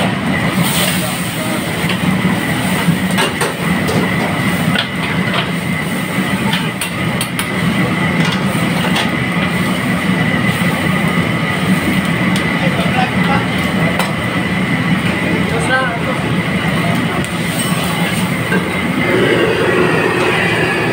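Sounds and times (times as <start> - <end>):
wok burner roaring: 0.0 - 20.9.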